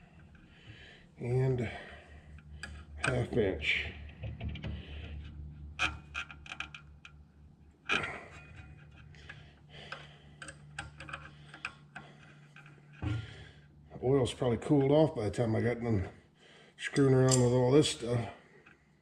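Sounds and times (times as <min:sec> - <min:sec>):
low steady hum: 0:00.0 - 0:18.8.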